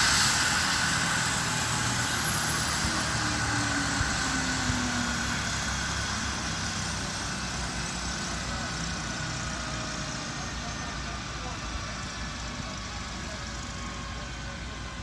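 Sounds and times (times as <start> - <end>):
helicopter turbine engines winding down: 0.0 - 15.0.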